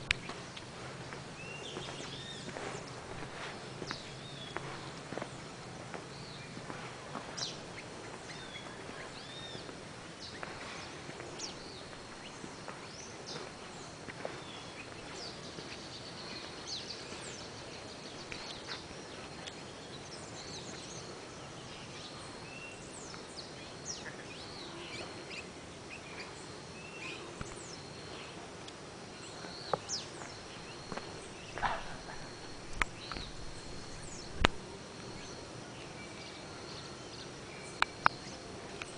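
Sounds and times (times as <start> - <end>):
birds chirping and whistling: 0.0 - 5.5, 6.1 - 28.4, 29.2 - 38.9
insect drone: 0.0 - 38.9.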